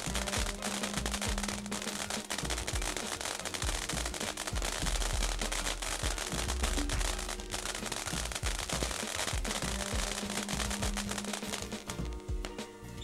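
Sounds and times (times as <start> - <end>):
firework fountain hissing: 0.0 - 12.6
firework crackling pops: 0.0 - 12.8.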